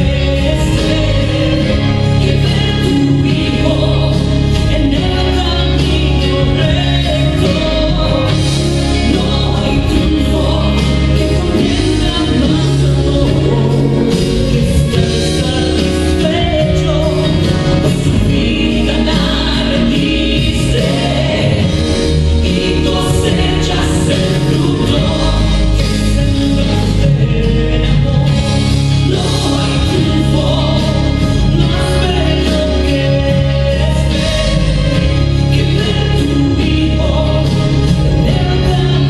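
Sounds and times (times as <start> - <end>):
gospel singing: 0.0 - 39.0
instrumental backing with bass: 0.0 - 39.0.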